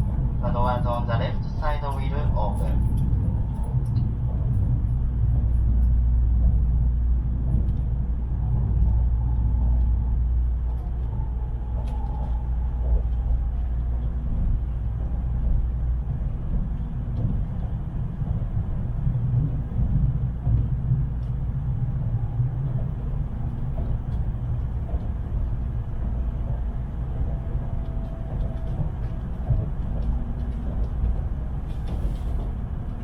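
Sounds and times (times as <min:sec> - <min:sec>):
faint train whine: 0:00.0 - 0:33.0
train low rumble: 0:00.0 - 0:33.0.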